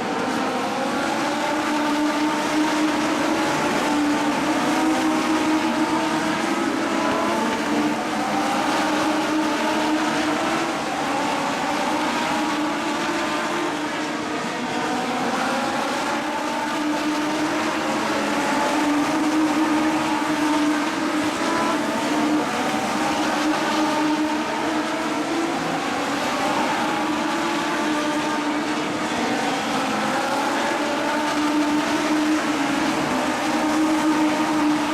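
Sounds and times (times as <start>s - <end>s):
race car engines whining: 0.0s - 34.9s.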